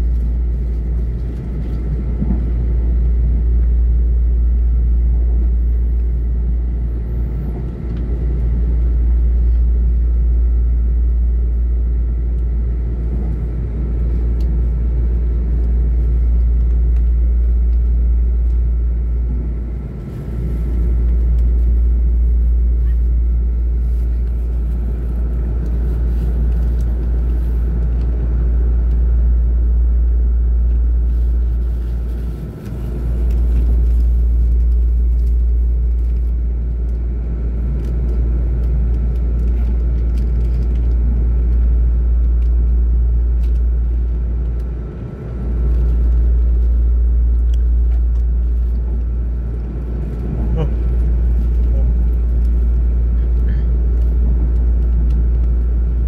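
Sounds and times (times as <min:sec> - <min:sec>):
faint steady whine: 0:00.0 - 0:56.0
train carriage rumble: 0:00.0 - 0:56.0.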